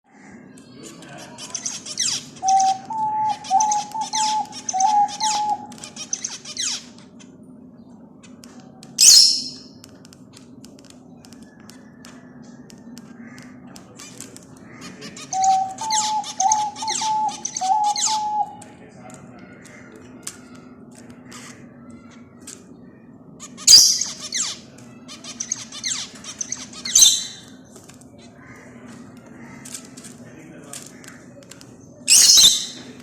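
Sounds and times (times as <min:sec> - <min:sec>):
birds calling: 0:00.1 - 0:33.0.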